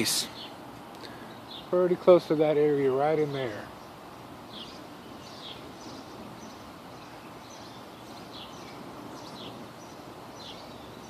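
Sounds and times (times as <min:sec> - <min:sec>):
bird chirping: 0:00.0 - 0:11.0
wind hiss: 0:00.0 - 0:11.0.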